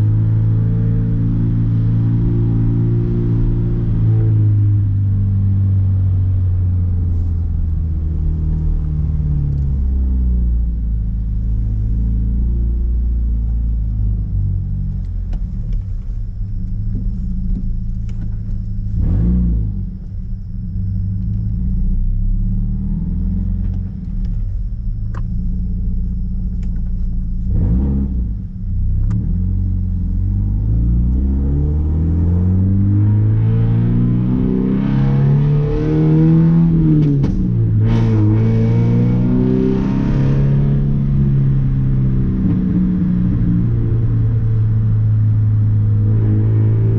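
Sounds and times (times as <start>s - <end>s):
car engine rumbling drone: 0.0s - 46.9s.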